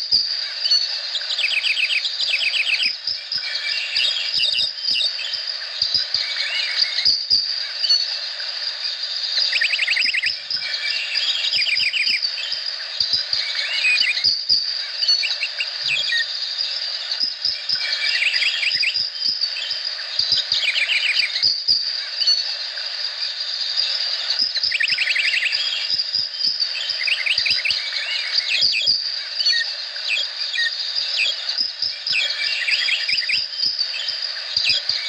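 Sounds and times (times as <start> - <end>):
high-pitched insect drone: 0.0 - 35.0
rapid trilling call: 0.0 - 35.0.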